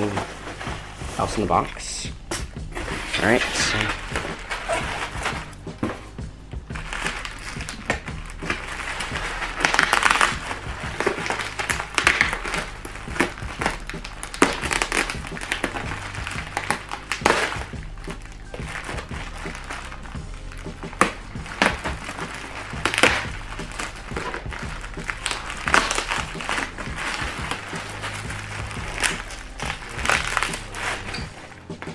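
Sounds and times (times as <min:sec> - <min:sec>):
bubble wrap crinkling: 0:00.0 - 0:31.9.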